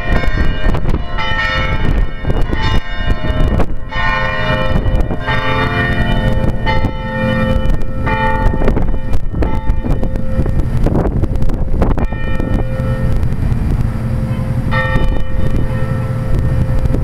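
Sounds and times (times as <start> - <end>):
church bells ringing: 0.0 - 17.0
steady low rumble: 0.0 - 17.0.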